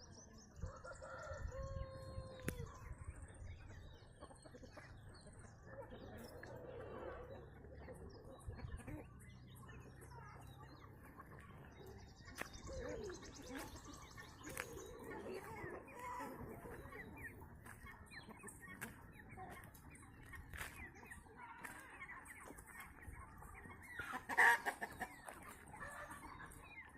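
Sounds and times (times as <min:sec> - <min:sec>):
chickens clucking and chirping: 0:00.0 - 0:26.9.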